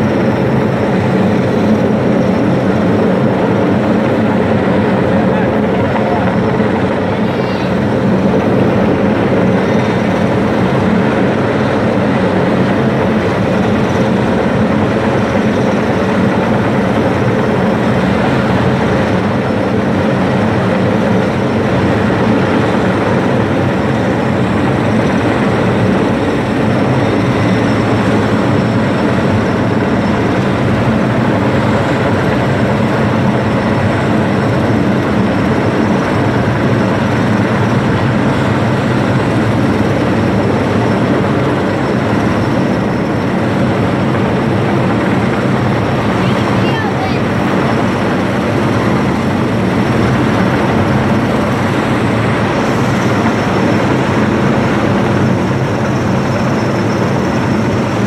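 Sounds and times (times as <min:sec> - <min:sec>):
helicopter rotor and turbine: 0:00.0 - 0:58.0
high steady whine: 0:00.0 - 0:58.0.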